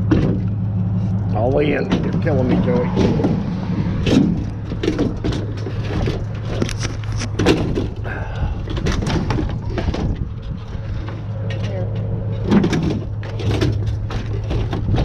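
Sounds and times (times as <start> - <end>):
scrap metal knocking and clanking: 0.0 - 15.0.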